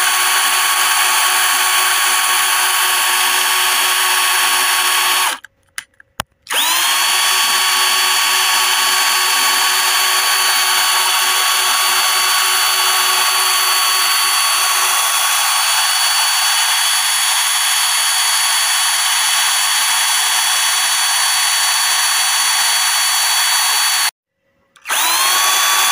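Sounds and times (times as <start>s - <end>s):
power drill whining: 0.0s - 5.4s, 6.5s - 24.2s, 24.8s - 25.9s.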